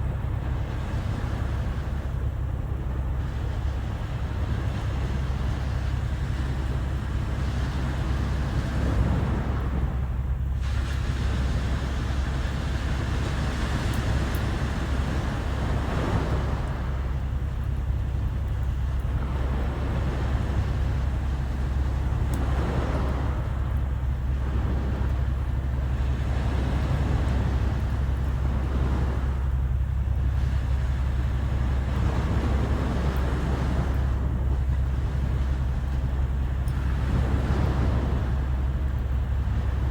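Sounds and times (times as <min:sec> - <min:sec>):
sea waves washing ashore: 0:00.0 - 0:39.9
wind rumble on microphone: 0:00.0 - 0:39.9.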